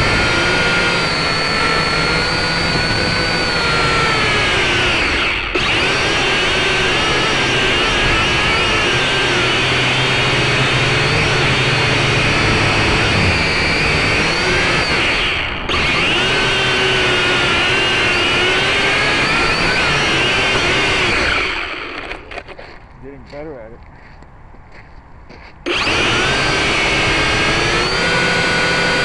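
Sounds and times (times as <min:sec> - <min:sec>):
drone motors whining: 0:00.0 - 0:22.8, 0:25.6 - 0:29.0.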